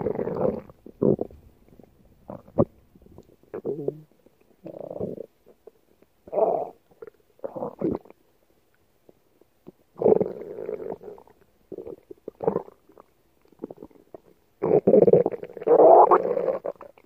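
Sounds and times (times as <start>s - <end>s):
stomach growling: 0.0s - 8.2s, 9.6s - 17.0s.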